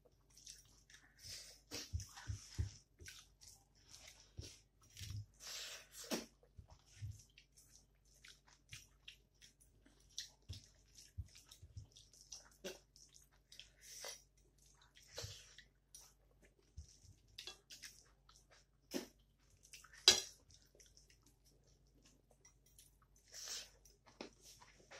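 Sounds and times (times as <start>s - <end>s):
wet chewing and lip smacks: 0.1s - 5.2s, 6.0s - 24.8s.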